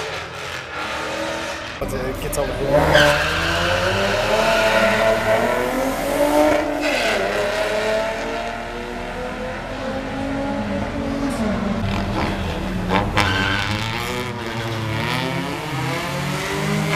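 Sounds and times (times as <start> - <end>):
drag racing cars accelerating: 0.0 - 16.9
engine running steadily: 1.8 - 15.6.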